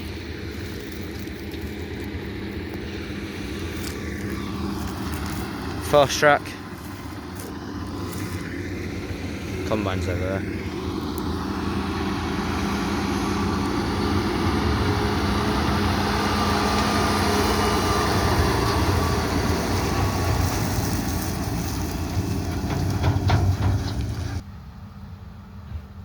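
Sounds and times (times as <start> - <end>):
trailer rattling: 0.0 - 24.5
tractor engine running: 0.0 - 25.4.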